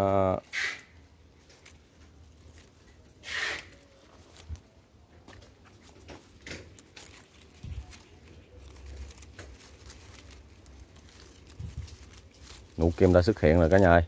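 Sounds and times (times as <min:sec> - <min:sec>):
leaves rustling: 0:00.0 - 0:14.0.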